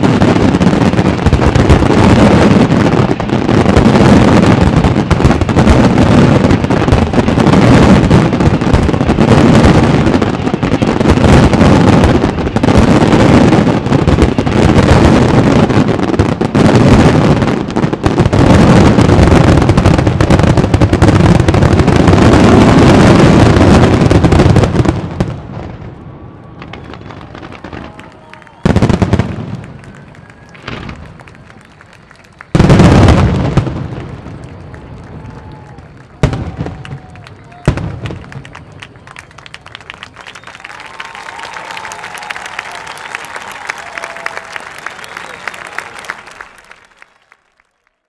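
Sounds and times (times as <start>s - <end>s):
fireworks bangs: 0.0s - 47.6s.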